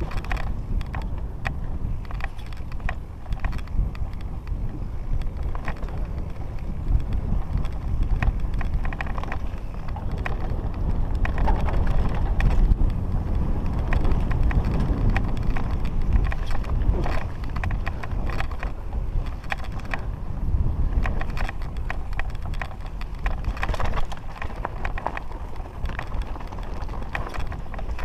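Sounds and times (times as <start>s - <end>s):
bike rattling and clicking: 0.0s - 28.0s
wind buffeting microphone: 0.0s - 28.0s.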